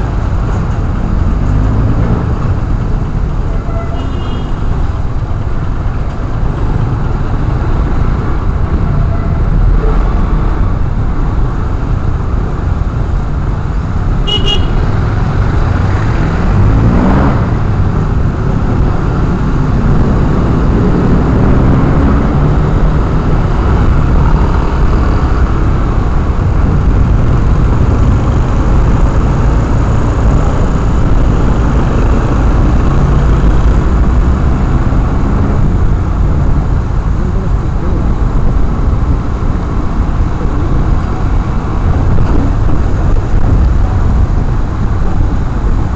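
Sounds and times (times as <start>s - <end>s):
wind and road rush: 0.0s - 45.9s.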